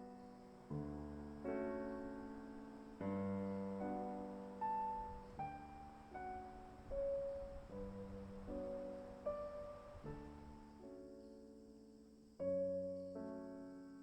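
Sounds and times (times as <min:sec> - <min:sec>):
gentle solo piano: 0:00.0 - 0:14.0.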